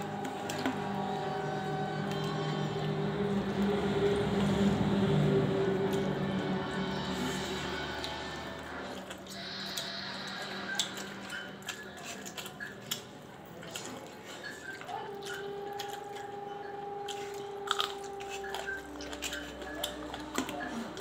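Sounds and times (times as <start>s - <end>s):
chewing and lip-smacking: 0.0s - 21.0s.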